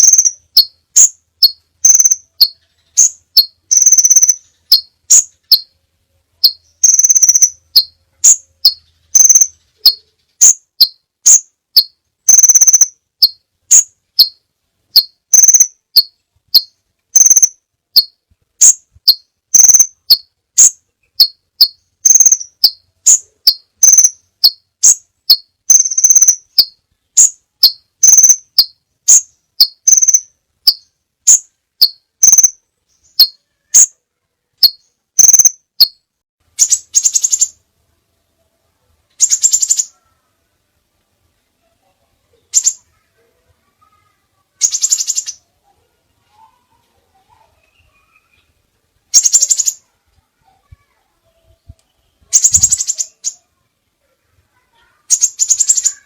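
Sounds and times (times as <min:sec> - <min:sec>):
bird trill: 0:00.0 - 0:05.8, 0:06.4 - 0:34.0, 0:34.6 - 0:37.6, 0:39.2 - 0:40.2, 0:42.4 - 0:43.1, 0:43.8 - 0:45.5, 0:46.4 - 0:49.9, 0:51.9 - 0:53.5, 0:54.6 - 0:56.0
bird chirping: 0:00.0 - 0:37.6, 0:39.1 - 0:40.4, 0:42.1 - 0:43.1, 0:43.7 - 0:50.7, 0:51.3 - 0:53.6, 0:54.6 - 0:56.0.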